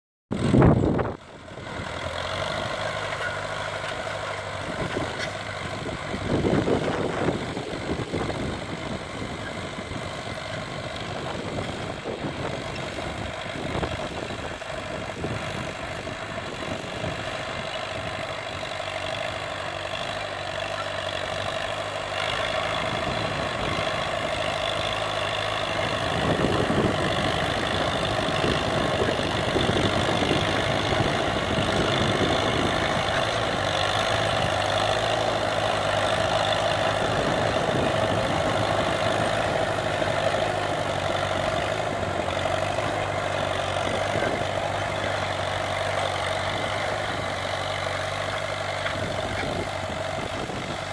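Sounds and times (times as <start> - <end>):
tractor engine running: 0.3 - 50.9.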